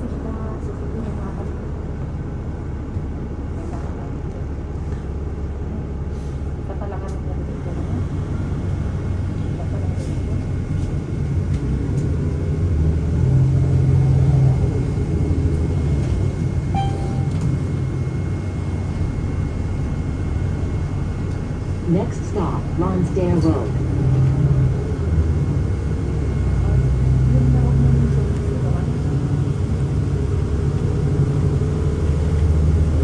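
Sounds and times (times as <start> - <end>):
bus engine and road rumble: 0.0 - 33.0.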